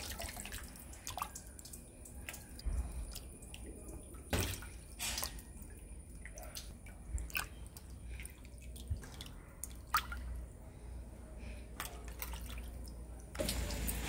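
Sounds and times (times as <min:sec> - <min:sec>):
water splashing in plastic basin: 0:00.0 - 0:10.4, 0:11.7 - 0:14.0.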